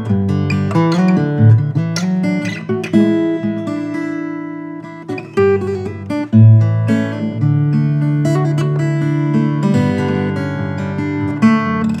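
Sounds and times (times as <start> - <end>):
acoustic guitar notes and chords: 0.0 - 12.0.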